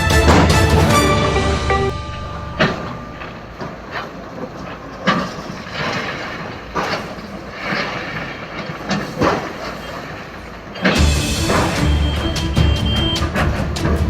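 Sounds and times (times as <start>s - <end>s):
demolition machine engine rumble: 0.0s - 8.9s, 9.5s - 14.0s.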